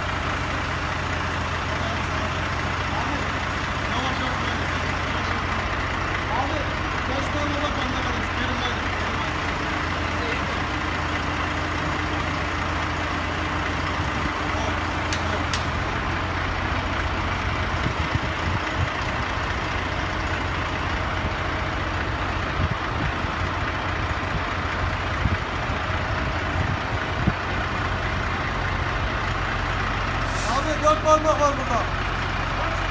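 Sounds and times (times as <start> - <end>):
diesel engine humming: 0.0 - 32.9.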